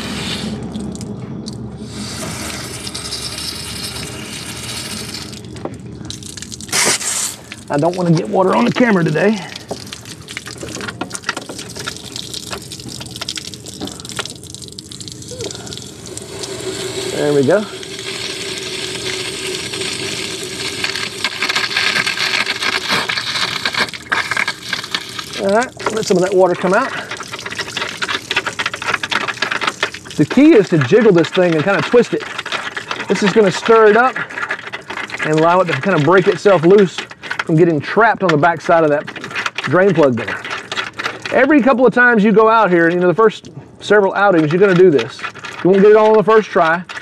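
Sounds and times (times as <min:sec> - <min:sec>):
hose water spraying: 0:00.0 - 0:01.1, 0:01.8 - 0:43.2
water splattering on pavement: 0:00.0 - 0:47.0.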